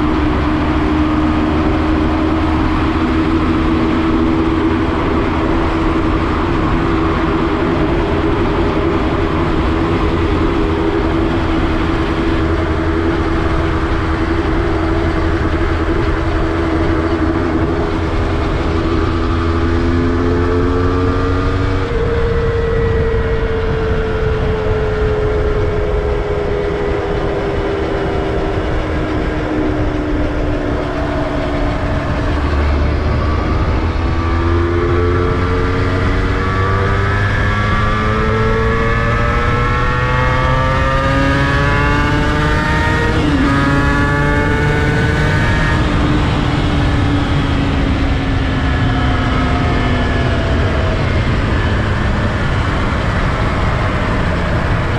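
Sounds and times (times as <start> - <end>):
motorcycle engine accelerating: 0.0 - 54.9
wind and road rumble: 0.0 - 54.9.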